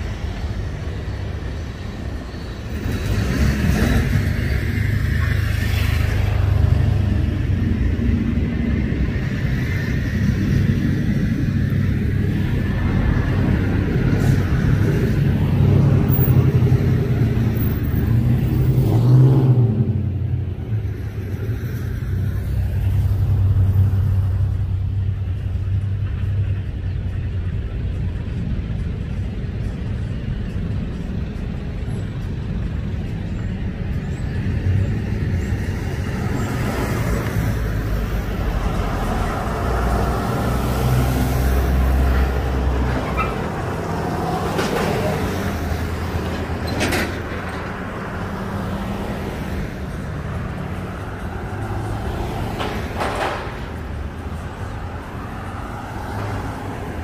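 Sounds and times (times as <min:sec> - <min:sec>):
heavy vehicle engine rumble: 0:00.0 - 0:57.0.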